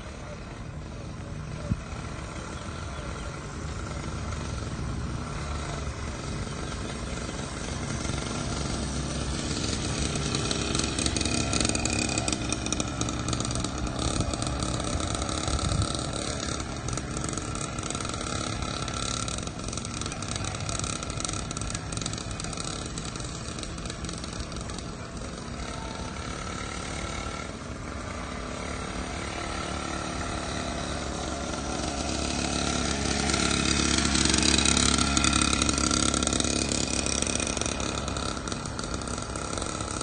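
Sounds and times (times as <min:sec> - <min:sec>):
dirt bike engine running: 0:00.0 - 0:40.0.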